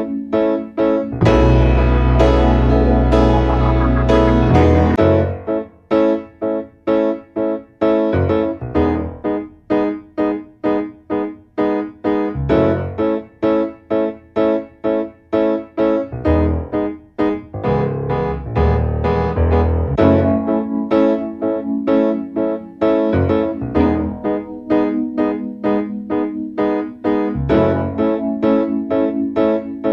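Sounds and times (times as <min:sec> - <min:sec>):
bouncy piano tune: 0:00.0 - 0:29.9.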